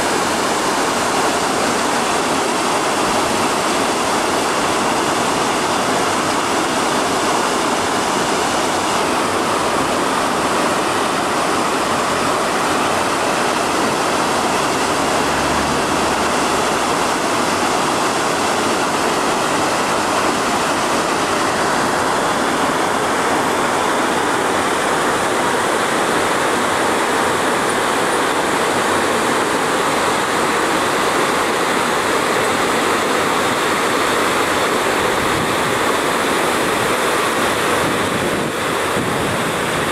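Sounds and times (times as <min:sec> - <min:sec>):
water rushing down canal: 0:00.0 - 0:39.9.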